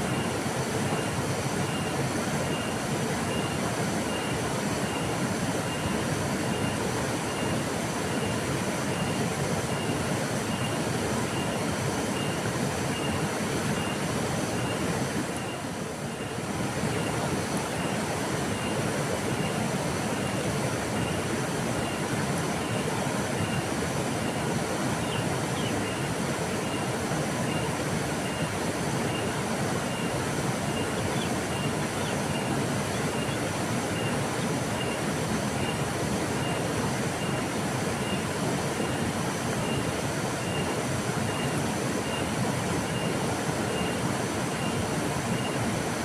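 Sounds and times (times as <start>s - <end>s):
river water flowing: 0.0s - 46.0s.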